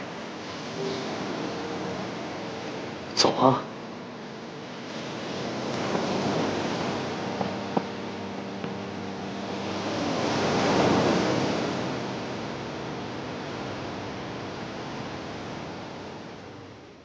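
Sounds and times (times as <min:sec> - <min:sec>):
ocean surf waves: 0:00.0 - 0:16.8.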